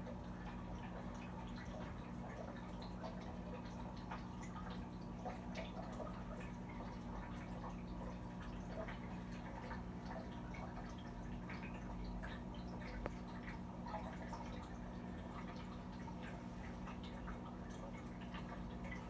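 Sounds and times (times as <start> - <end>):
steady low hum: 0.0 - 19.0
water dripping and trickling: 0.0 - 19.0.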